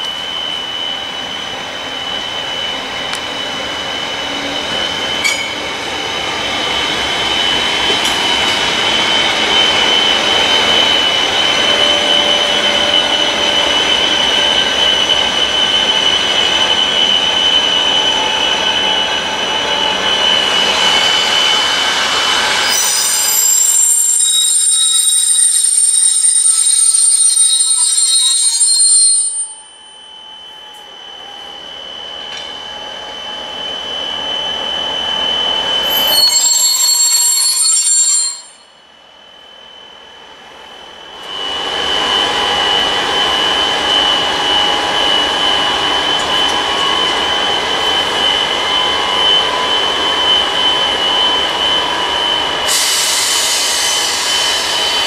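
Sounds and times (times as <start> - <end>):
wheels and brakes squealing: 0.0 - 38.8, 41.2 - 55.0
freight train rolling: 0.0 - 55.0.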